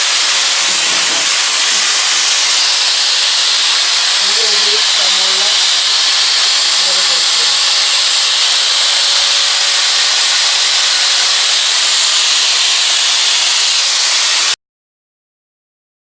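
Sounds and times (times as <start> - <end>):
vacuum cleaner running: 0.0 - 14.6.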